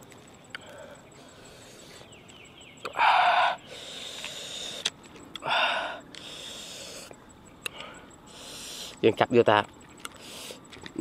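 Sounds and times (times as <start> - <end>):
sharp hissing breaths: 0.5 - 9.1, 10.1 - 10.7.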